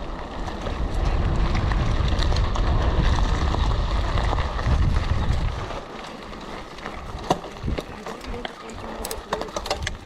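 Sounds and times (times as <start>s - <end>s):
bike rattling over ground: 0.0s - 10.0s
wind buffeting microphone: 0.0s - 10.0s.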